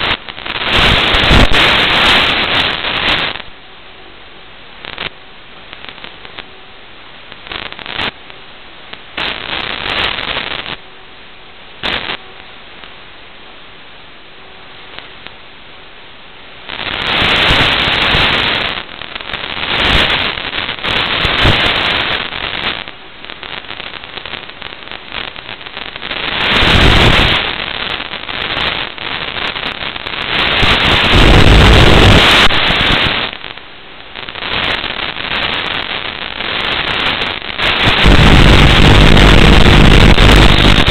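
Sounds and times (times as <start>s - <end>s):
radio static hiss and crackle: 0.0s - 40.9s.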